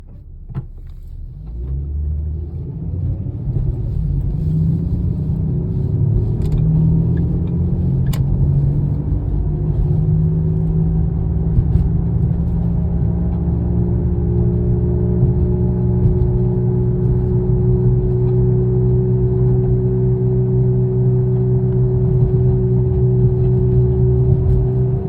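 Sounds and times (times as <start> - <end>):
car accelerating with low hum: 0.0 - 25.0.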